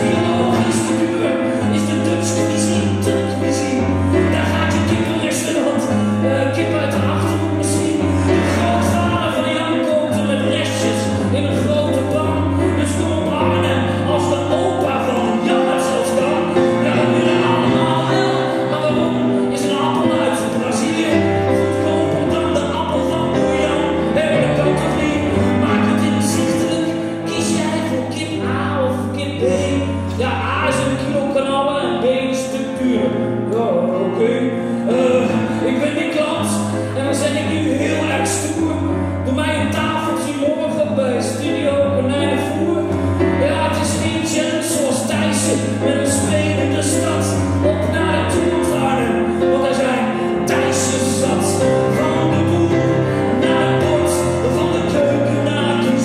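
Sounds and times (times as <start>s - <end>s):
grand piano chords: 0.0s - 56.0s
man singing into a microphone: 0.0s - 56.0s.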